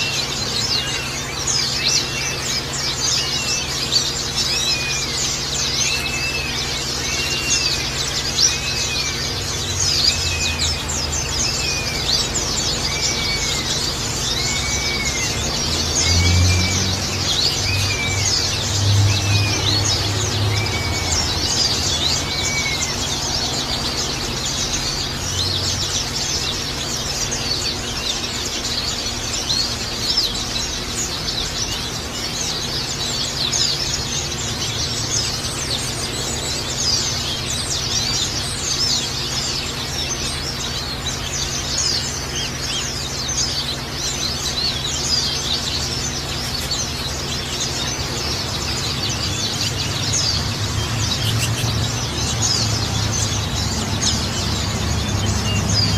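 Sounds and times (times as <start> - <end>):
songbirds twittering: 0.0 - 55.9.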